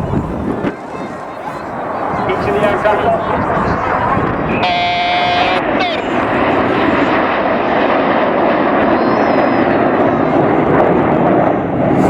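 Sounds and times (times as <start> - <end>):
aircraft engine flying past: 0.0 - 12.0.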